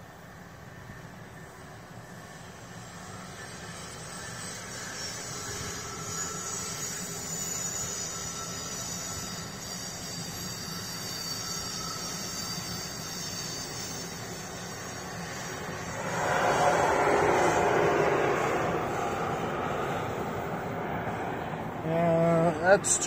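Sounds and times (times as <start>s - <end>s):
faint high whine: 0.1s - 23.0s.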